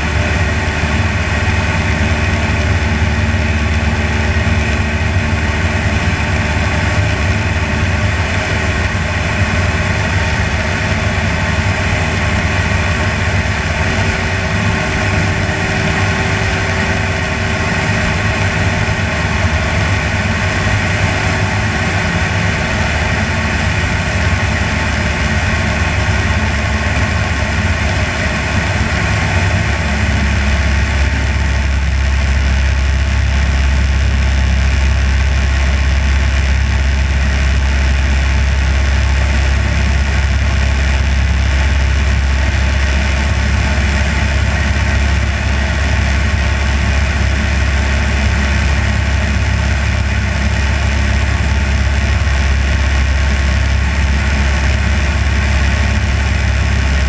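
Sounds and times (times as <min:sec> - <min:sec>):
propeller aircraft engine droning: 0:00.0 - 0:57.0.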